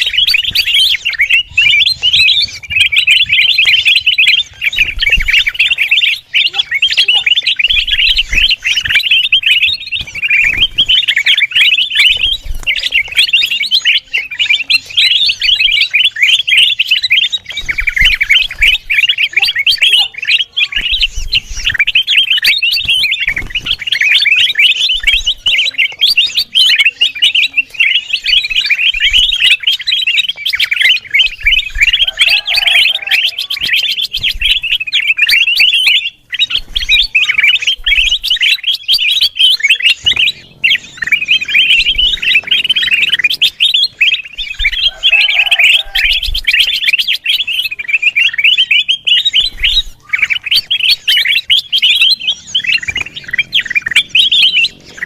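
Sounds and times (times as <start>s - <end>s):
bird chattering high chirps: 0.0s - 55.0s.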